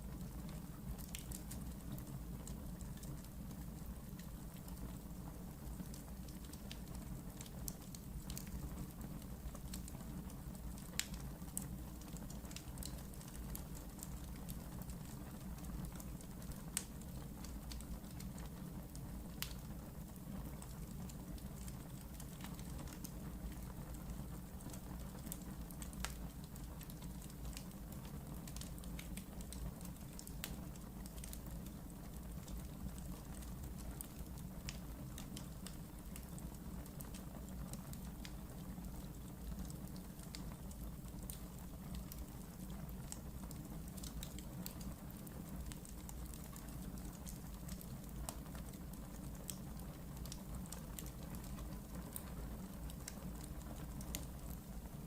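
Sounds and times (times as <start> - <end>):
fire crackles and pops: 0.0 - 55.0.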